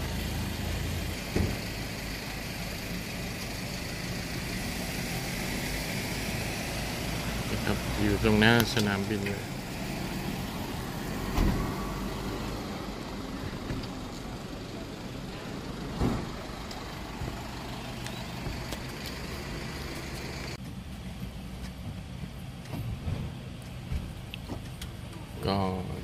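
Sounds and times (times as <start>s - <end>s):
vehicle engines idling: 0.0s - 26.0s.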